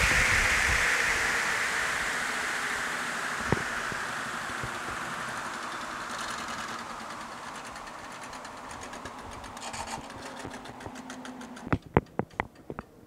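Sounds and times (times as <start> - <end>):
bicycle wheels whirring: 0.0 - 11.8.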